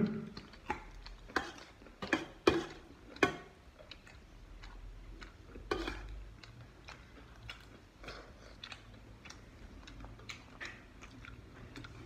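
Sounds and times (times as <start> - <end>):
chewing crunches: 0.4 - 12.0.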